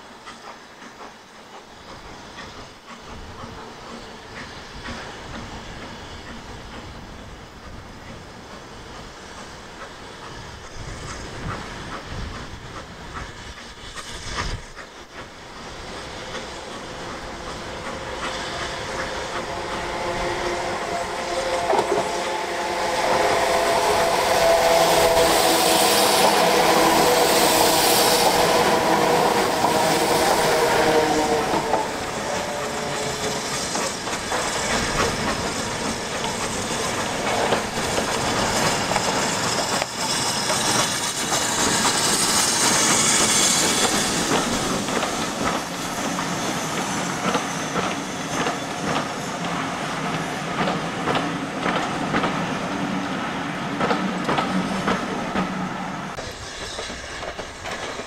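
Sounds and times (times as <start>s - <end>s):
loud steam hiss: 0.0s - 58.0s
steam train passing: 0.0s - 58.0s.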